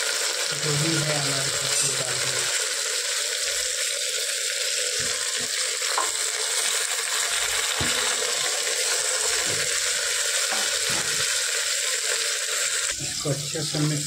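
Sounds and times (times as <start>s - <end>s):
onions and tomatoes sizzling in oil: 0.0s - 14.0s.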